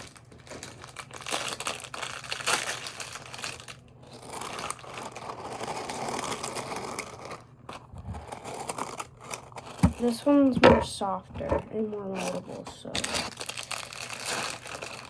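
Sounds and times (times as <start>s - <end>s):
plastic packaging crinkling: 0.0s - 10.6s, 11.2s - 15.0s.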